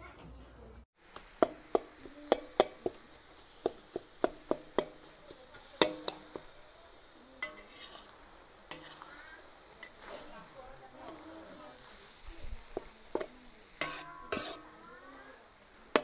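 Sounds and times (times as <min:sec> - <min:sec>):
faint frying sizzle: 0:01.0 - 0:16.0
metal spatula clanking on wok: 0:01.4 - 0:14.7.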